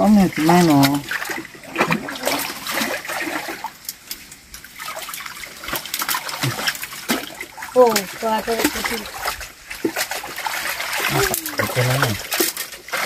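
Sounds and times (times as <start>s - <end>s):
water trickling: 0.0s - 13.0s
hands splashing in muddy water: 0.4s - 13.0s.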